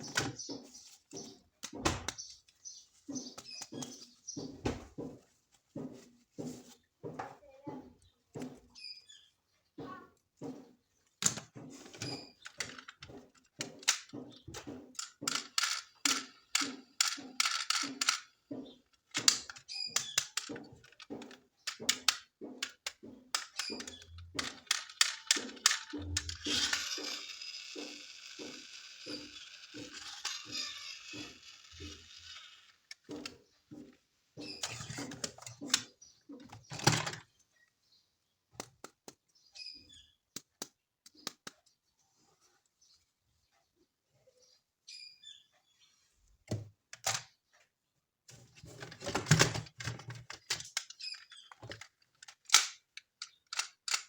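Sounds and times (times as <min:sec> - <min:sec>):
plastic toys clicking and tapping: 0:00.0 - 0:06.8, 0:09.8 - 0:37.3, 0:38.5 - 0:39.4, 0:40.2 - 0:41.8, 0:46.4 - 0:47.5, 0:48.3 - 0:54.0.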